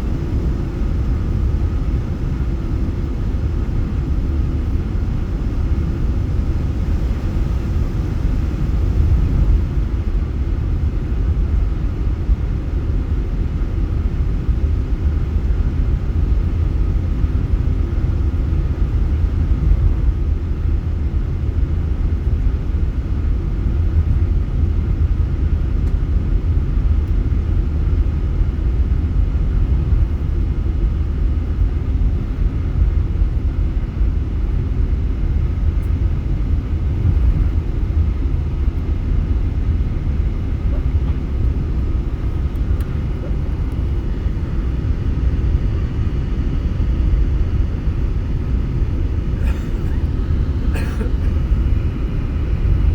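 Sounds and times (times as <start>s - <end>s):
jet airliner cabin rumble: 0.0s - 52.9s.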